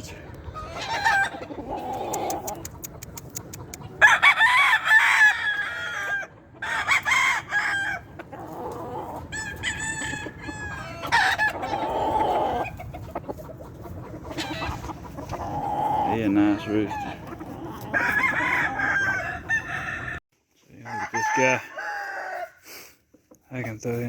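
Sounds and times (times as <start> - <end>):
roosters crowing: 0.0 - 2.8, 3.6 - 22.9.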